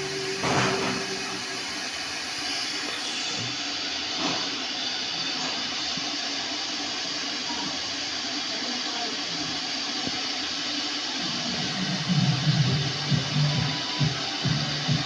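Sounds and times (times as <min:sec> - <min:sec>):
kettle boiling water: 0:00.0 - 0:15.0.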